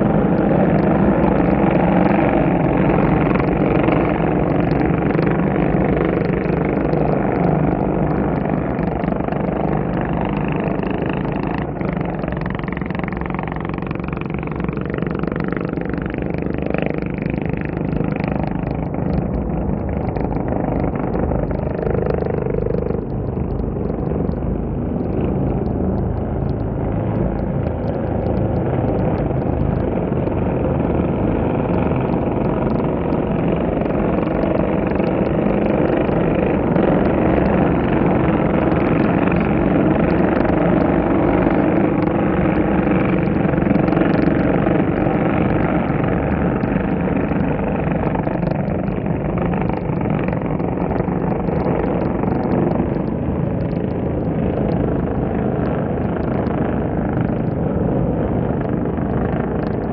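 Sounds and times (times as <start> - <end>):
racing motorcycle engines: 0.0 - 59.9.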